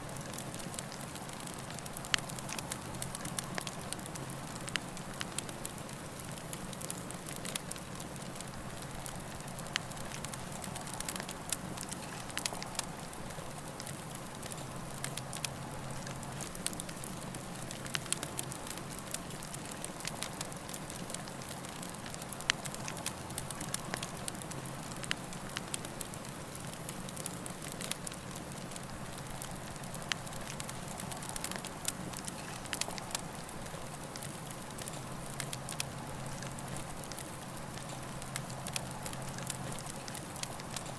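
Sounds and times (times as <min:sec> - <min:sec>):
wood crackling and popping: 0:00.0 - 0:40.9.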